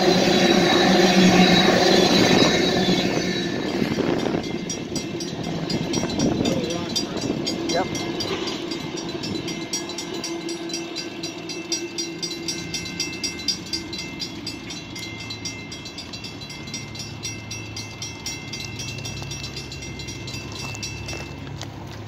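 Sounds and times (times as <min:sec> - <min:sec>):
high steady squeal: 0:00.0 - 0:21.4.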